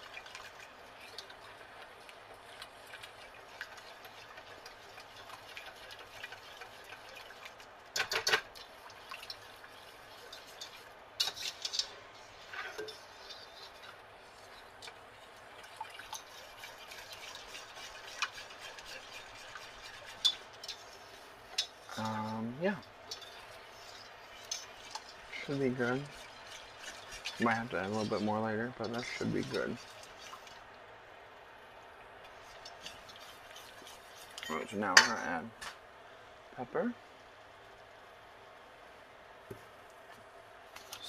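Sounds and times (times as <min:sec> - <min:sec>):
whisk swishing in sauce: 0:00.0 - 0:30.6, 0:32.2 - 0:34.6.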